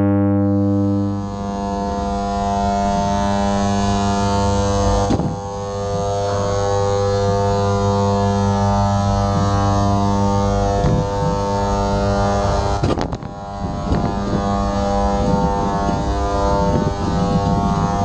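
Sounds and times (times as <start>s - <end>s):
low electronic drone: 0.0s - 18.0s.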